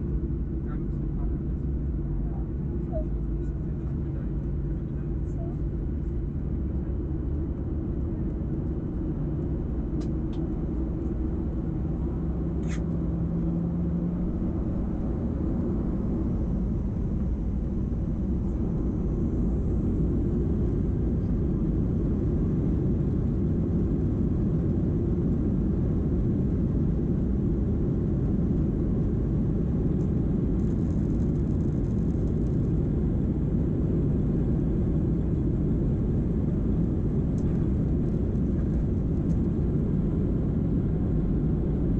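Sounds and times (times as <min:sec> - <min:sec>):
aircraft cabin engine rumble: 0:00.0 - 0:41.9.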